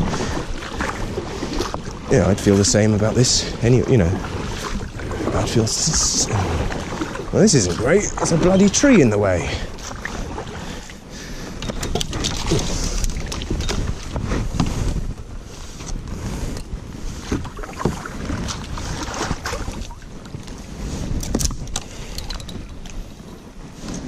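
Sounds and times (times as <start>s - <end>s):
paddle knocking and scraping hull: 0.0s - 24.0s
water sloshing and splashing: 0.0s - 24.0s.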